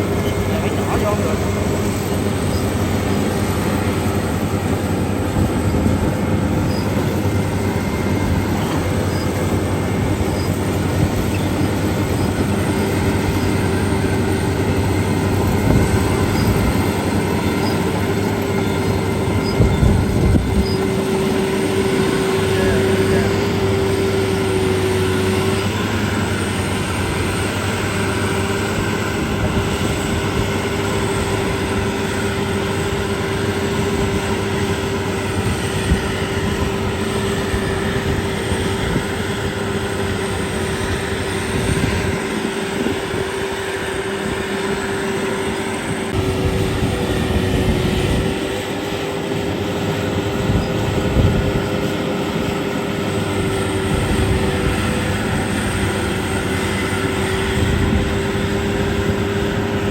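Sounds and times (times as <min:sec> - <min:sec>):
combine harvester engine drone: 0:00.0 - 0:59.9
steady machine whine: 0:00.0 - 0:59.9.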